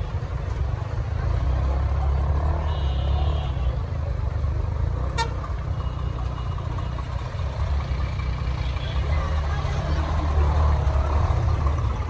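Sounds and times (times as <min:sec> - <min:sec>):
tractor and truck engines rumbling: 0:00.0 - 0:12.0.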